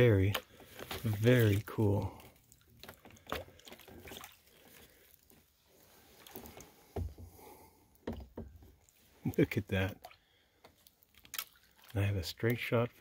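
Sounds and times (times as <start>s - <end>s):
paddle dipping into water: 0.0s - 12.0s.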